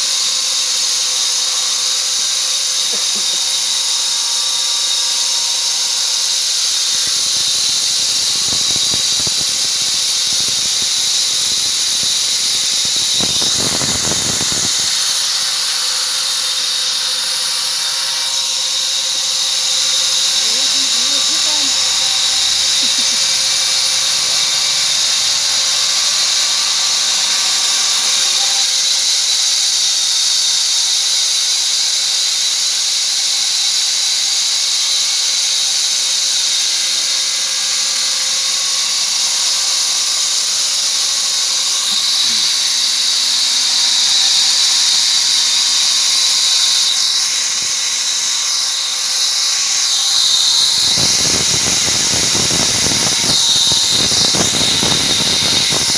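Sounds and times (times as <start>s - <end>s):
bandsaw mill whining: 0.0s - 55.9s.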